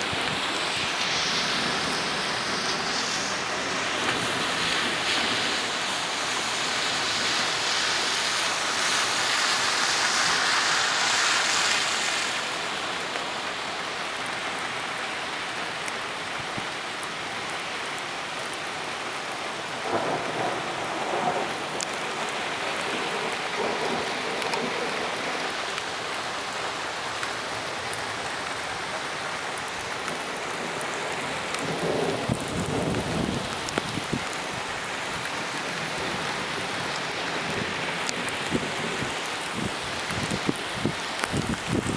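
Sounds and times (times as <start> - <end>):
rain pouring: 0.0 - 41.9.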